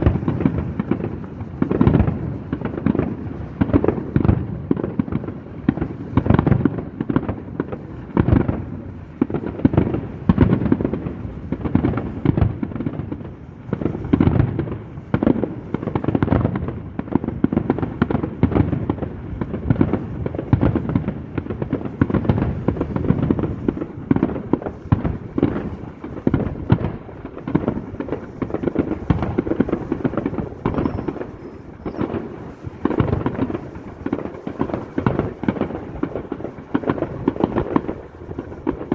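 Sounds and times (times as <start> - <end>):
fireworks booming and banging: 0.0 - 38.9.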